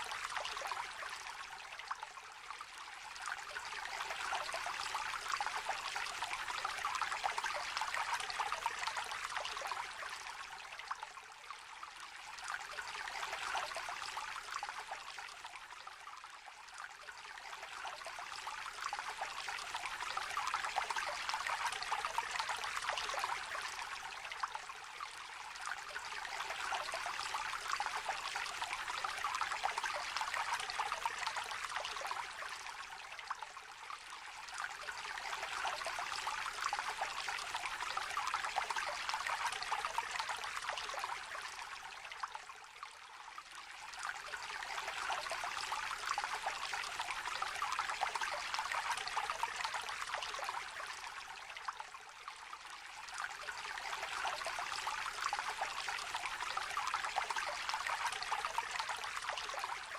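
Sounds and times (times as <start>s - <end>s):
river trickling: 0.0s - 59.9s.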